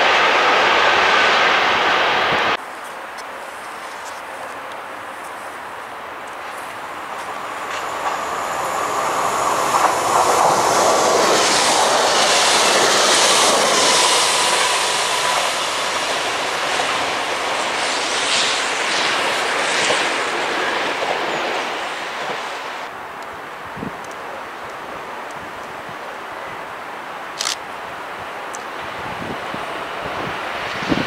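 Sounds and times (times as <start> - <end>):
train wheels on rails: 0.0 - 23.3, 28.5 - 31.0.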